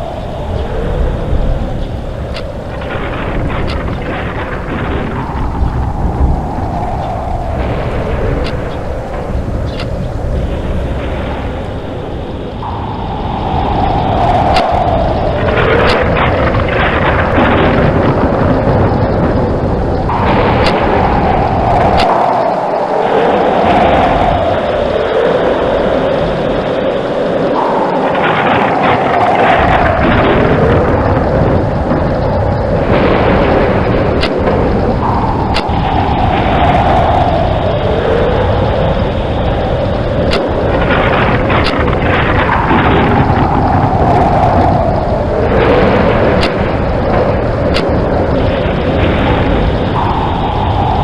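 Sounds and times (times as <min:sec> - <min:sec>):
heavy rain: 0:00.0 - 0:51.0
rolling thunder: 0:00.0 - 0:51.0
sharp thunder cracks: 0:00.0 - 0:51.0.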